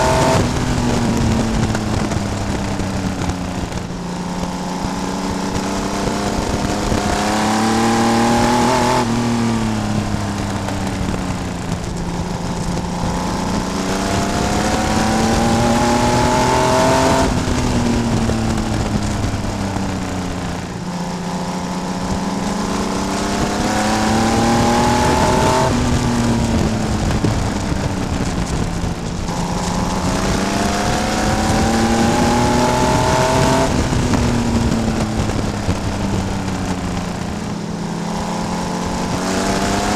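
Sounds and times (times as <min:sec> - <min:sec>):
race car engine revving: 0:00.0 - 0:03.0, 0:03.6 - 0:39.9.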